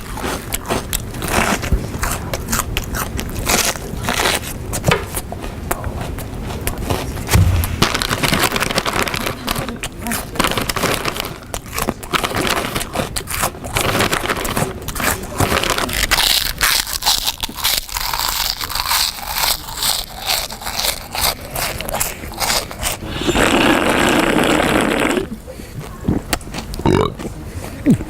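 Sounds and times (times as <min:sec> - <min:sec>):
loud crunchy eating: 0:00.0 - 0:25.4, 0:26.0 - 0:28.0.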